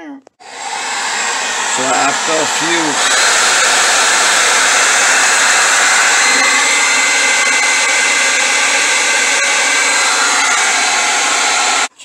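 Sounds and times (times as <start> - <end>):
hair dryer running: 0.4 - 12.0.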